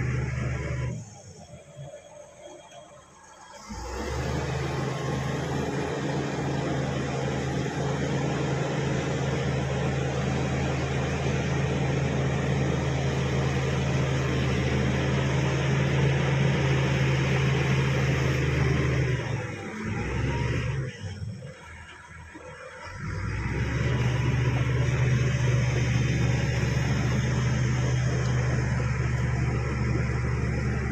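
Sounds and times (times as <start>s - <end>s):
bulldozer diesel engine droning: 0.0s - 30.9s.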